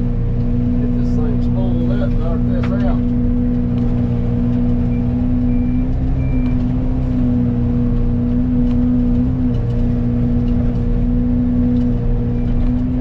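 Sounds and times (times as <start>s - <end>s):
forestry mulcher droning: 0.0s - 13.0s.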